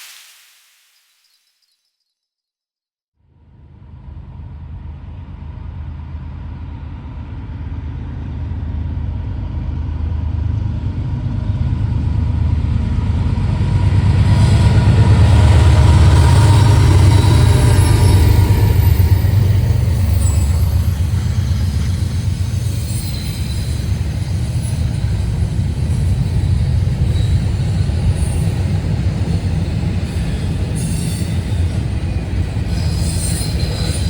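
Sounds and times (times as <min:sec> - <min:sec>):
diesel train engine rumble: 0:03.5 - 0:34.0.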